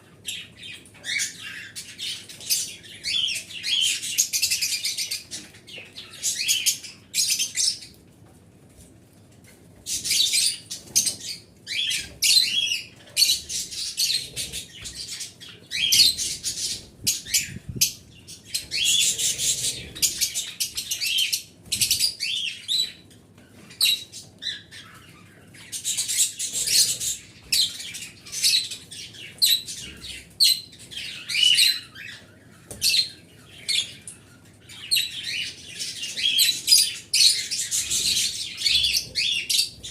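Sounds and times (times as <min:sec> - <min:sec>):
small cage birds chirping: 0:00.0 - 0:39.9.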